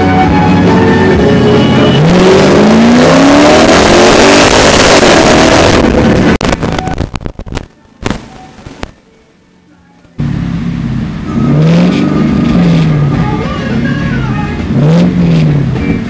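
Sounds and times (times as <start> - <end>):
car engine revving: 0.0 - 7.2, 10.2 - 16.0.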